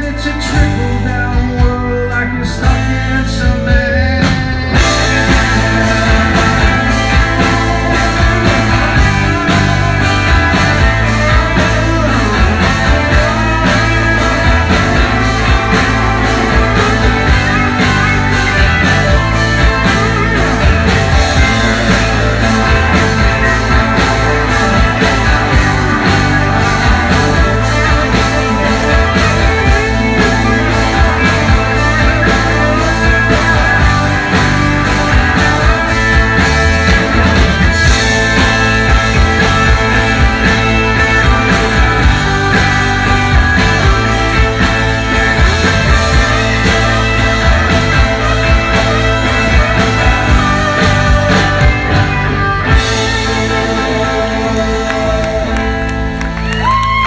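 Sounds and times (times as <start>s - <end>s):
drum kit: 0.0s - 57.0s
electric bass guitar: 0.0s - 57.0s
electric guitars: 0.0s - 57.0s.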